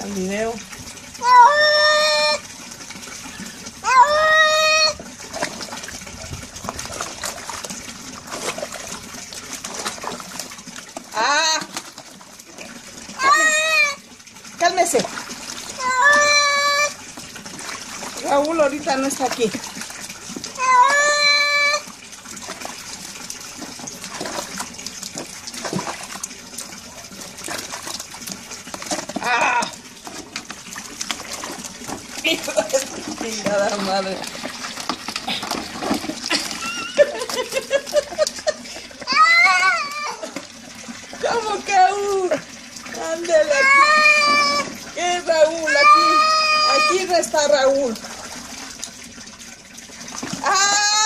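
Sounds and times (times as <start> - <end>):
water sloshing in a bucket: 0.0 - 51.0.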